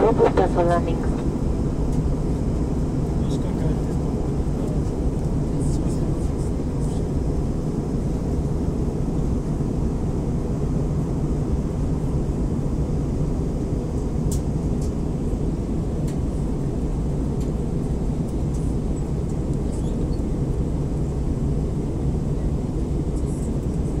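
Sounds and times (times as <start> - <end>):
airliner cabin engine roar: 0.0 - 24.0.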